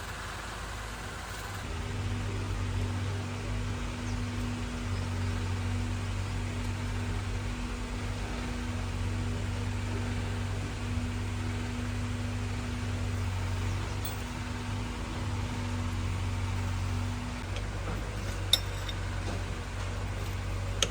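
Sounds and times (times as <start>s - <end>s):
engine humming: 0.0s - 20.9s.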